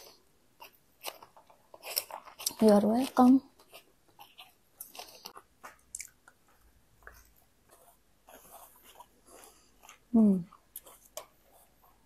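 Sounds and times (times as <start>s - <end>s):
quiet chewing: 0.0s - 12.0s.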